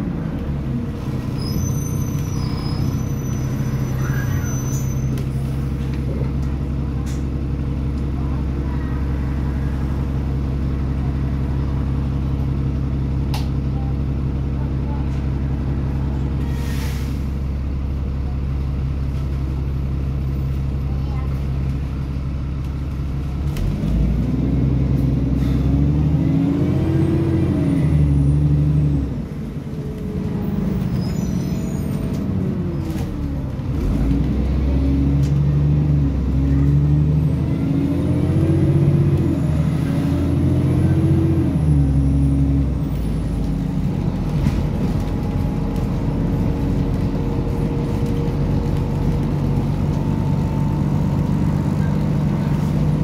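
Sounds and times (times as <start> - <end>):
bus diesel engine accelerating: 0.0 - 53.0.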